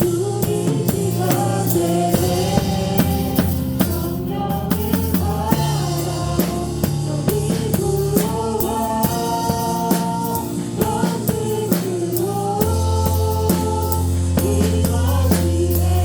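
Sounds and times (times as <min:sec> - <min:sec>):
drum kit beat: 0:00.0 - 0:16.0
sustained keyboard and bass: 0:00.0 - 0:16.0.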